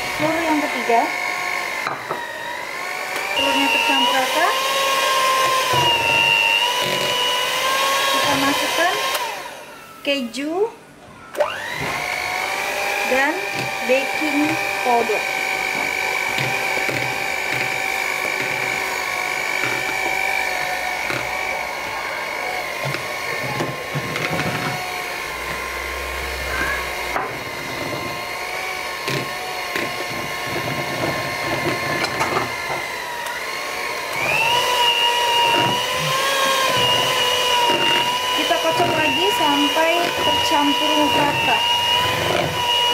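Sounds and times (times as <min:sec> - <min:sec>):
electric mixer motor whining: 0:00.0 - 0:42.9.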